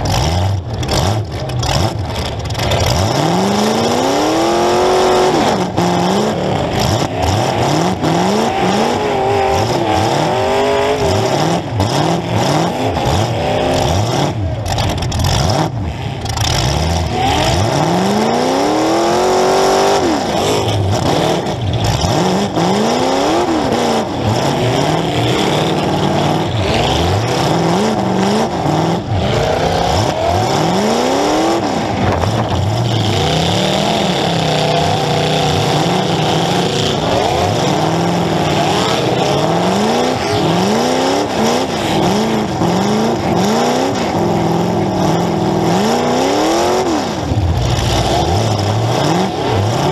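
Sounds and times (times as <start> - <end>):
car engine revving hard: 0.0 - 49.9.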